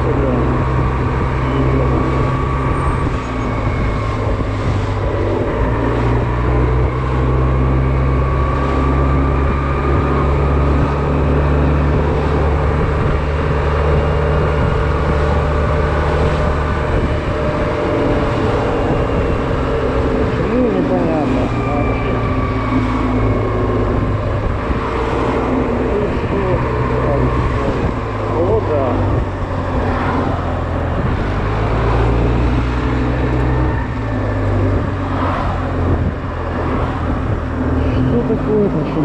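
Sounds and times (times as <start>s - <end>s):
road noise: 0.0s - 39.0s.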